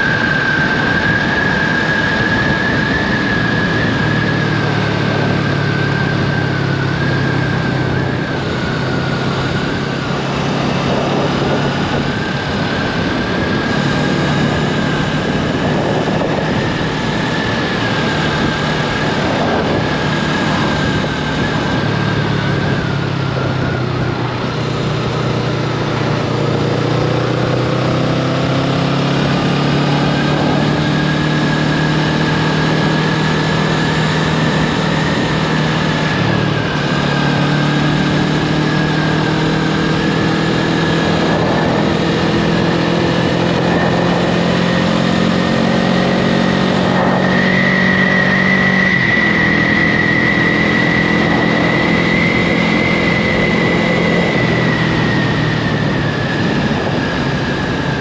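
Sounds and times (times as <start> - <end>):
motorcycle engine cruising: 0.0 - 58.0
road noise: 0.0 - 58.0
wind rushing over microphone: 0.0 - 58.0.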